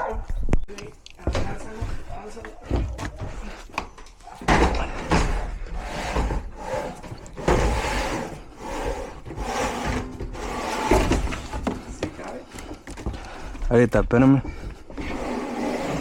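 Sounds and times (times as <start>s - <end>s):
rubbing and scraping on metal: 1.4s - 13.5s, 14.7s - 16.0s.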